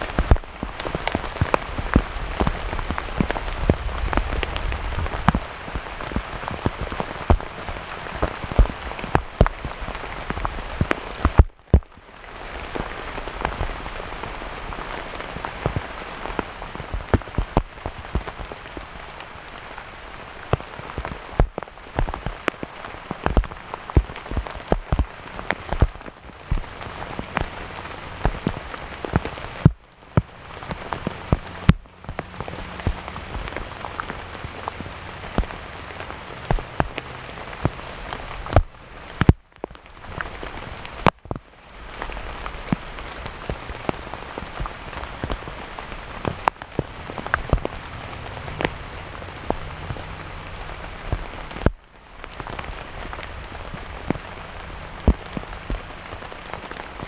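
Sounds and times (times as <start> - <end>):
heavy rain falling: 0.0 - 57.0
raindrops ticking close by: 0.0 - 57.0.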